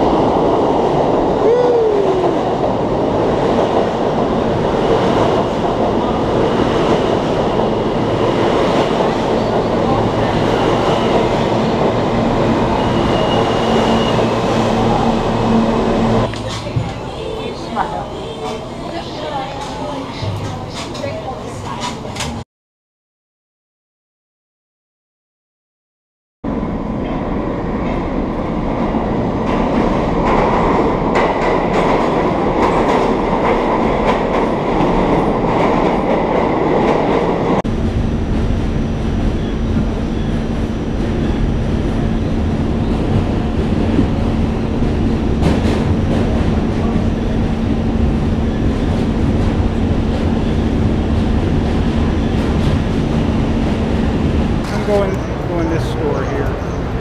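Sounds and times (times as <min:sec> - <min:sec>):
subway car rumbling on a bridge: 0:00.0 - 0:22.4, 0:26.5 - 0:57.0
train echoing in underground station: 0:00.0 - 0:22.4, 0:26.4 - 0:57.0.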